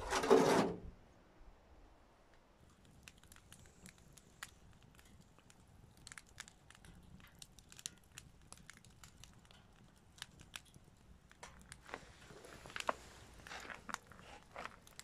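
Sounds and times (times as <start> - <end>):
wood fire crackling: 2.3 - 15.0.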